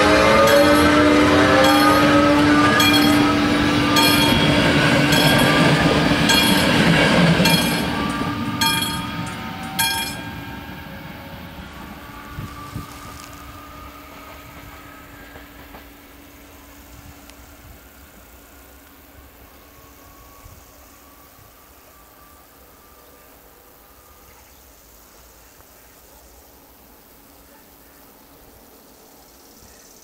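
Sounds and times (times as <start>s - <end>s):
level-crossing warning bells: 0.0s - 24.3s
train wheels rumbling: 0.0s - 25.6s
electric locomotive whine: 0.0s - 30.0s.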